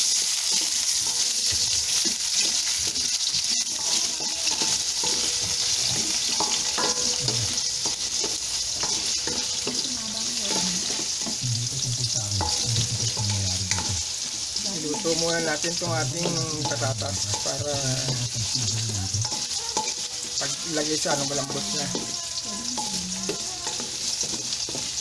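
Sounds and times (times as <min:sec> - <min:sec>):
potatoes sizzling in hot oil: 0:00.0 - 0:25.0
wooden spatula knocking pan: 0:00.6 - 0:25.0.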